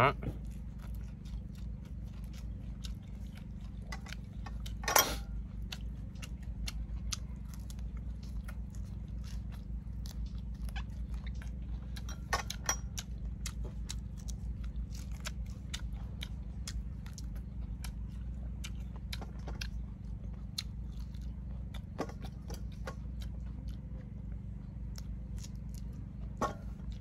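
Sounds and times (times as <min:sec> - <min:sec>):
food crunching: 0:00.2 - 0:27.0
person chewing wetly: 0:00.3 - 0:27.0.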